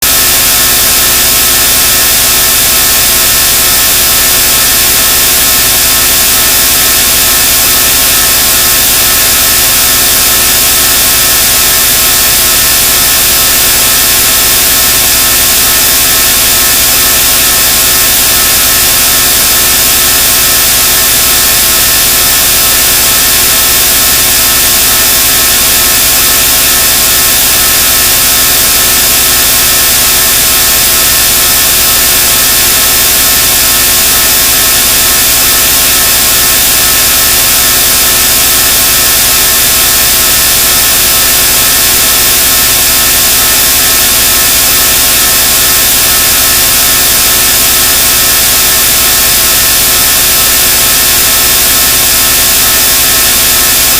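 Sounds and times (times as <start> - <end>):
harsh hissing buzzing noise: 0.0 - 53.9.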